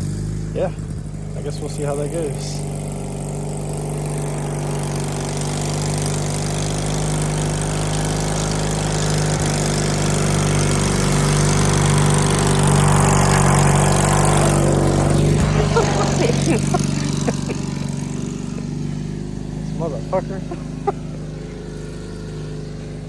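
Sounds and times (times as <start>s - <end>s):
riding lawnmower engine running: 0.0s - 23.0s.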